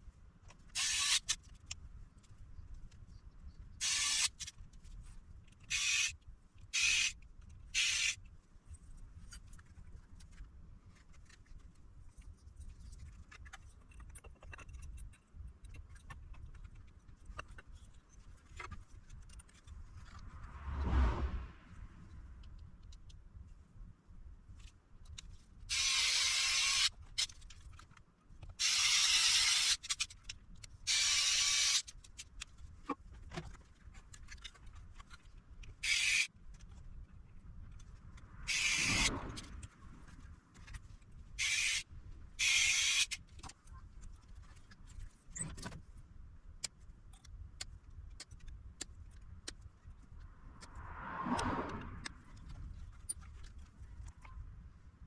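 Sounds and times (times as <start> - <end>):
small clicks and handling noises: 0.4 - 20.3, 22.4 - 23.6, 24.5 - 38.4, 39.3 - 50.8.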